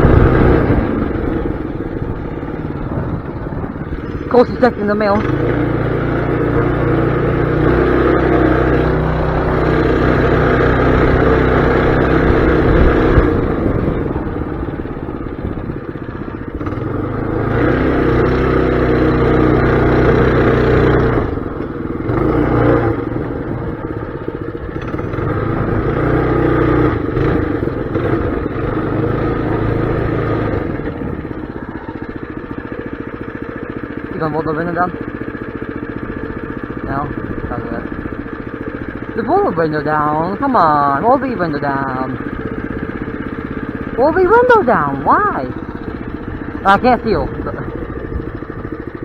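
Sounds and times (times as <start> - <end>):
mini bike engine revving: 0.0 - 49.0.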